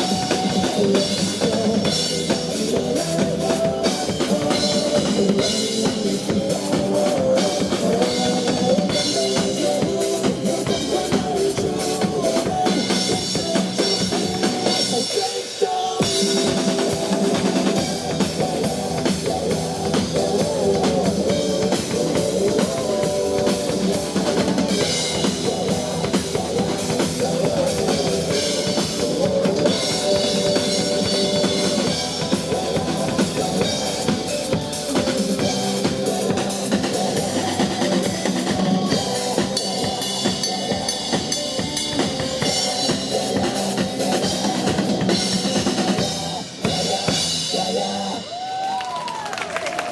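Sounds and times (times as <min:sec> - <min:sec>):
backing track music: 0:00.0 - 0:49.2
drum kit playing rock beat: 0:00.0 - 0:49.2.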